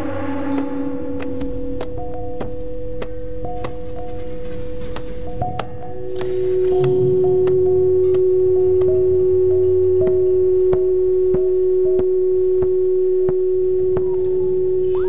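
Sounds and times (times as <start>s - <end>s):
steady held pure tone: 0.0s - 15.0s.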